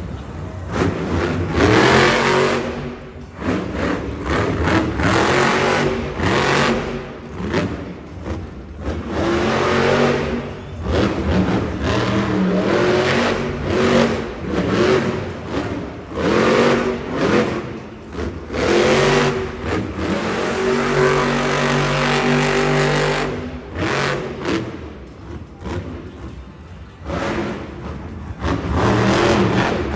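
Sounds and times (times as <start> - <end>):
truck engine revving hard: 0.4 - 26.4, 27.0 - 29.9.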